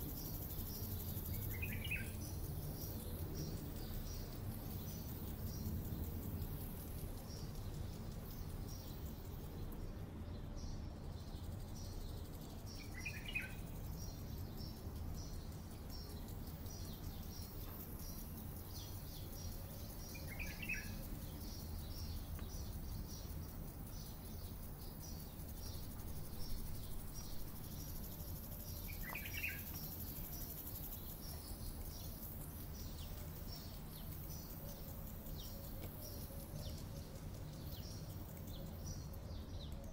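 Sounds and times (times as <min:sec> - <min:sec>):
bird chirping: 0:00.0 - 0:39.9
soft hiss: 0:00.0 - 0:39.9
steady low hum: 0:00.0 - 0:39.9.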